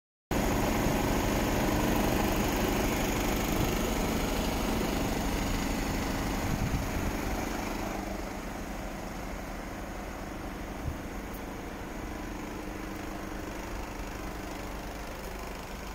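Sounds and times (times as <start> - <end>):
diesel truck engine idling: 0.3 - 15.9.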